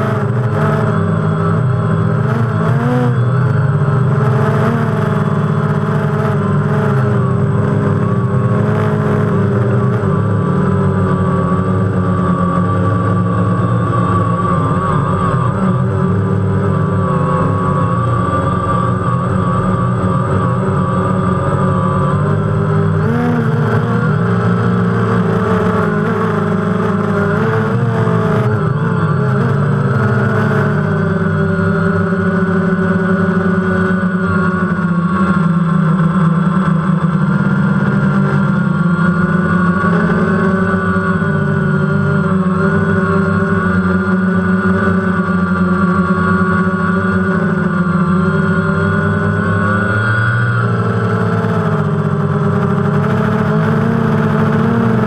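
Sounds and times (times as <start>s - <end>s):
drone motors buzzing: 0.0s - 55.0s.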